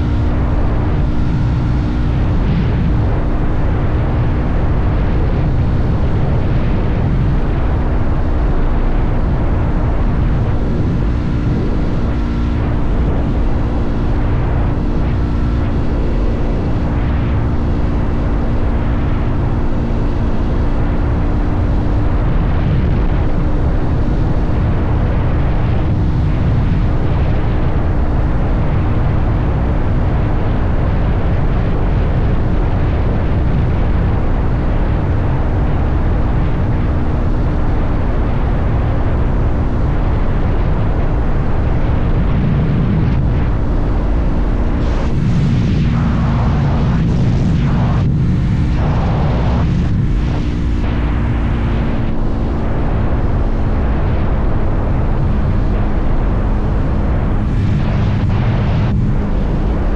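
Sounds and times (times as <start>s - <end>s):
motorcycle engine cruising: 0.0s - 59.9s
wind noise rumble: 0.0s - 59.9s.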